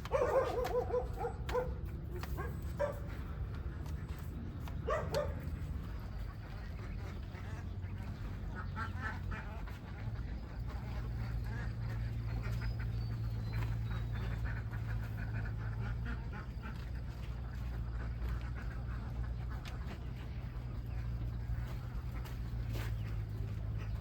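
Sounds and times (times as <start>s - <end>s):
ducks quacking: 0.0s - 24.0s
steady low hum: 0.0s - 24.0s.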